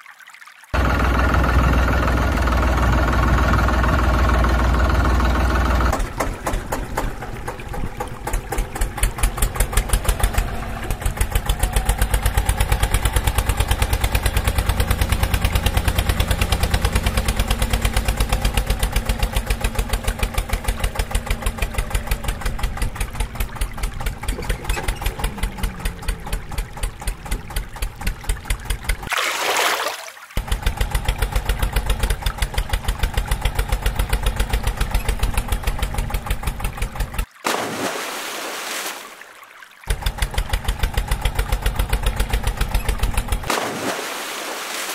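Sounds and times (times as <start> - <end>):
tractor engine idling: 0.8 - 29.1, 30.4 - 37.3, 39.9 - 43.5
water splashing: 5.8 - 44.9.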